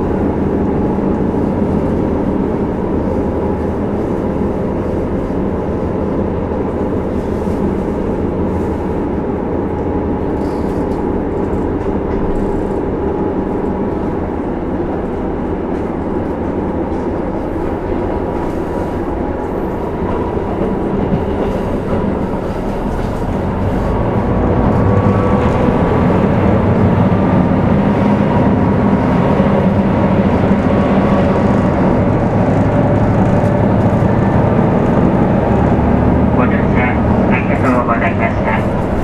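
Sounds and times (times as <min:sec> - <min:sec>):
diesel railcar engine drone: 0:00.0 - 0:39.0
train wheels on rails: 0:00.0 - 0:39.0.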